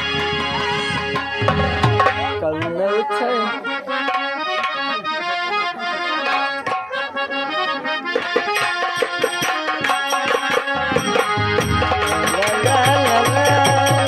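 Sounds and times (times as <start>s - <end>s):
folk band music: 0.0s - 14.0s
reedy held melody: 0.0s - 14.0s.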